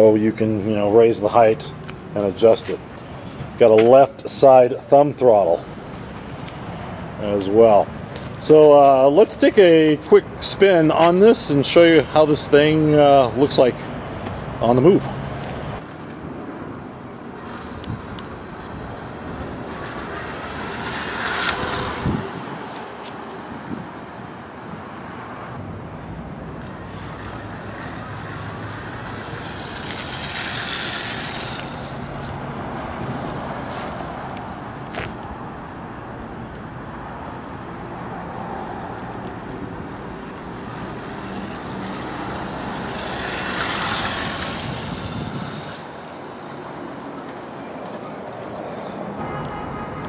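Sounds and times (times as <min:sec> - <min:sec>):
traffic and street noise: 0:00.0 - 0:50.0.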